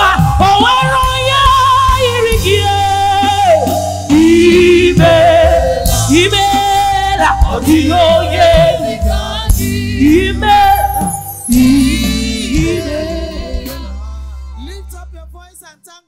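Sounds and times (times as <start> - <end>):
band accompaniment with bass line: 0.0 - 15.6
gospel praise singing: 0.0 - 16.0.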